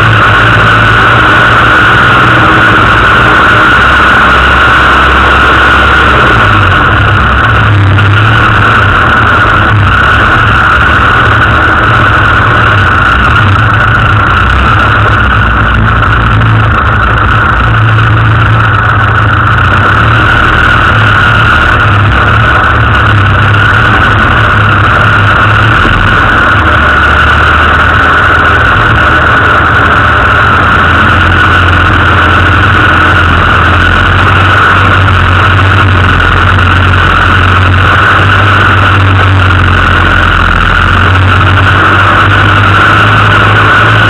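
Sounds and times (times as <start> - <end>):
off-road vehicle engine running: 0.0 - 44.0.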